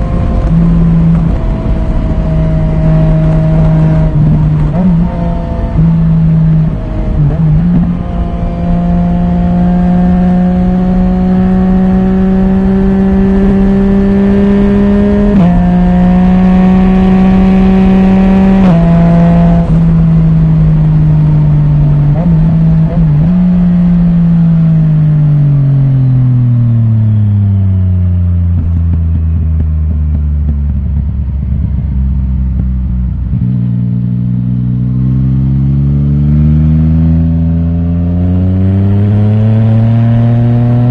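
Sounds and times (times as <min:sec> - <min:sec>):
motorcycle engine while riding: 0:00.0 - 0:40.9.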